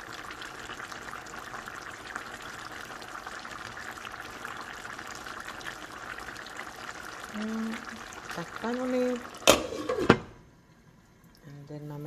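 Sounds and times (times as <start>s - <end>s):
sauce bubbling and crackling: 0.0s - 11.4s.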